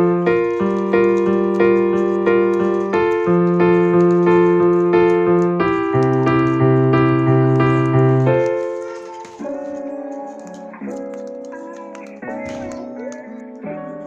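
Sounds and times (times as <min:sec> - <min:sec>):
piano playing chords: 0:00.0 - 0:14.0.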